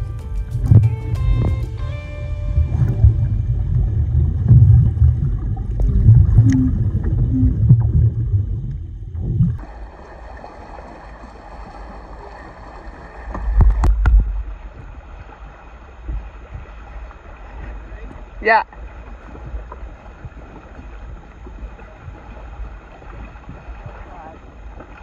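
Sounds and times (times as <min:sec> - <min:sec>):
underwater rumble and bubbles: 0:00.0 - 0:25.0.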